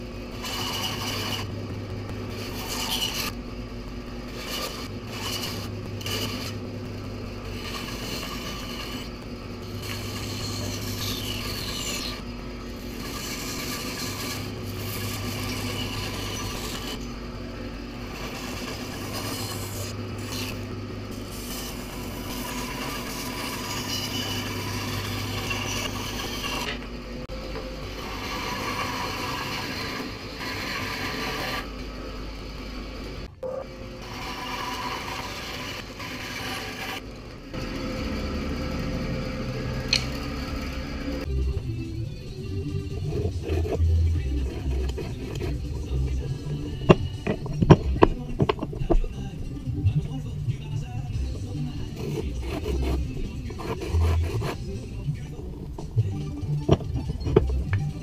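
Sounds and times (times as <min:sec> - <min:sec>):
band saw cutting wood: 0:00.0 - 0:31.8, 0:34.0 - 0:41.4, 0:42.5 - 0:49.6, 0:51.1 - 0:58.0
band saw hum: 0:00.0 - 0:58.0.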